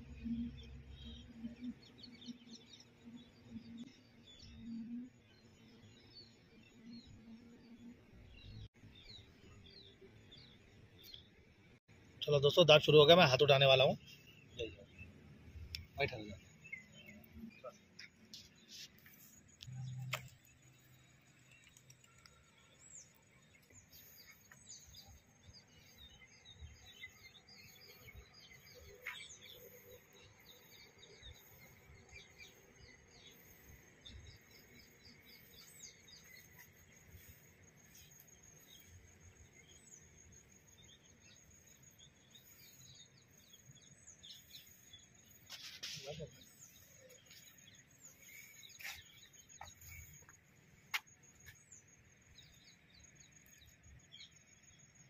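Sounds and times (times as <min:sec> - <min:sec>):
faint bird chirps: 0:00.0 - 0:11.3, 0:12.2 - 0:55.0.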